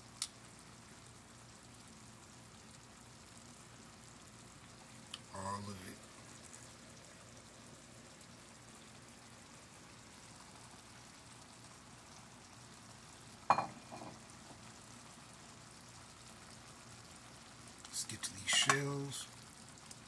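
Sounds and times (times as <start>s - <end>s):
food sizzling in a skillet: 0.0s - 20.0s.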